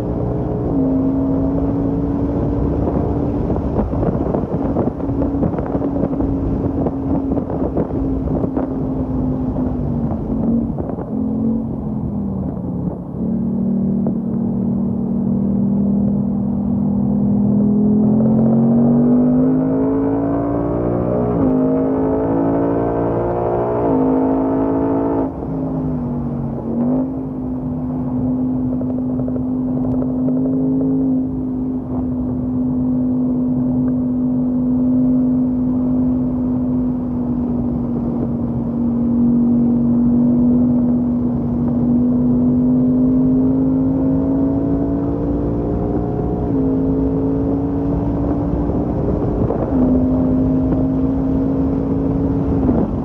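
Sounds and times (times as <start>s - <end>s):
car engine revving with gear shifts: 0.0s - 53.0s.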